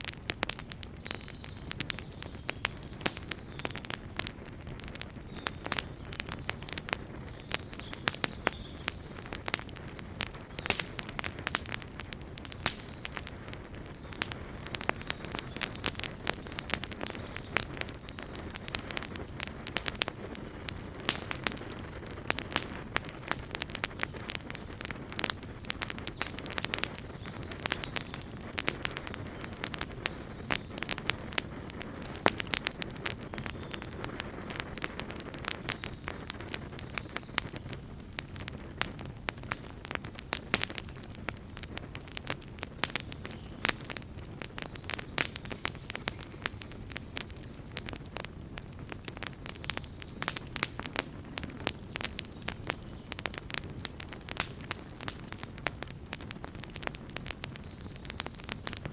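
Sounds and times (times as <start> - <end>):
campfire flames rumbling: 0.0 - 58.9
fire crackling and popping: 0.0 - 58.9.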